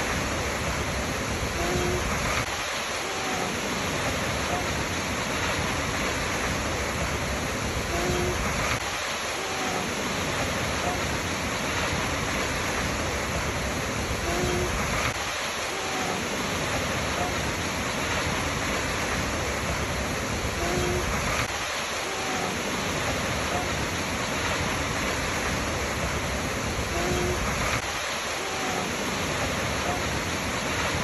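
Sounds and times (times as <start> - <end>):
waterfall roaring: 0.0 - 31.0.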